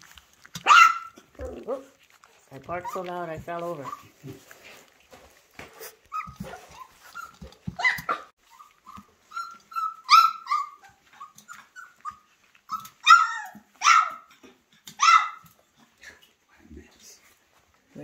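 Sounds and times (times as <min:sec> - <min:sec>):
puppies yipping and barking: 0:00.0 - 0:04.8, 0:05.6 - 0:15.5.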